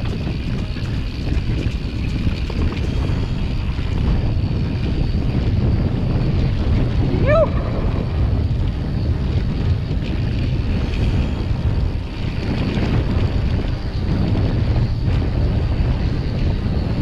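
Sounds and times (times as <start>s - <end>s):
bike tyres rolling on dirt: 0.0s - 17.0s
wind buffeting microphone: 0.0s - 17.0s.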